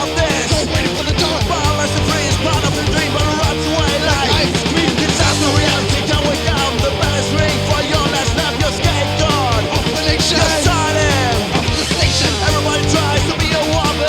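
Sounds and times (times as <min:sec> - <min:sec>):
punk rock band playing: 0:00.0 - 0:14.0.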